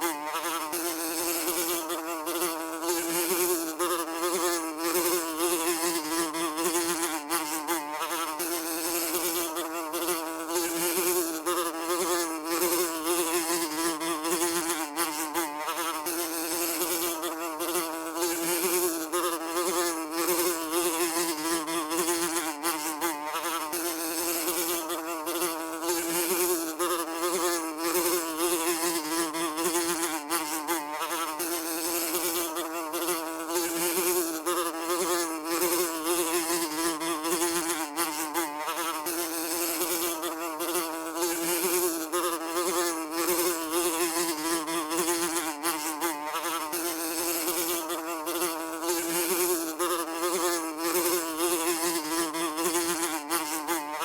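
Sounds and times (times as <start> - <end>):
housefly buzzing: 0.0 - 54.0.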